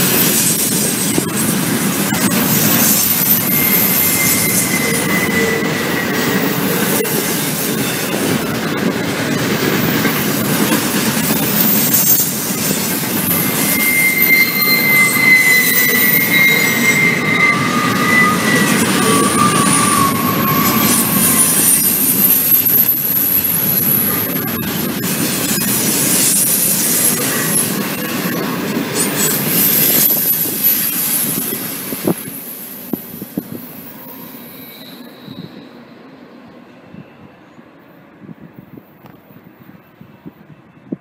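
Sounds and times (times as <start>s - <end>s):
high wheel squeals: 0.0s - 8.7s, 9.8s - 36.3s
train wheels rumbling on rail: 0.0s - 41.0s.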